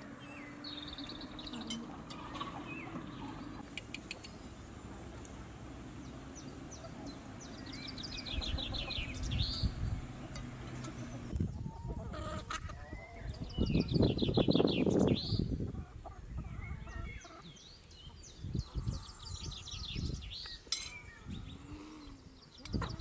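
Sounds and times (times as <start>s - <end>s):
birds trilling: 0.0s - 4.7s, 5.9s - 23.0s.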